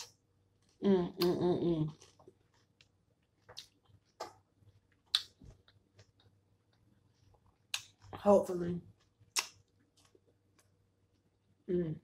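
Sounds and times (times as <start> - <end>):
wet chewing and lip-smacking: 0.0 - 8.2, 9.0 - 10.8.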